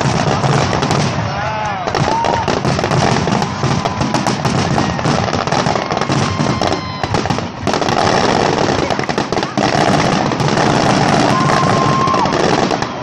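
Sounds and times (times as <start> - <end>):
fireworks bangs and crackling: 0.0 - 13.0
fireworks whistling: 0.0 - 13.0.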